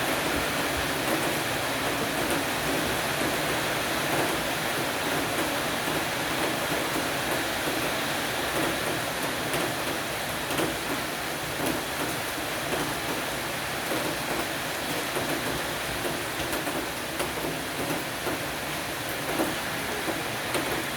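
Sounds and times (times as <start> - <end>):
rain pattering on awning: 0.0 - 20.9.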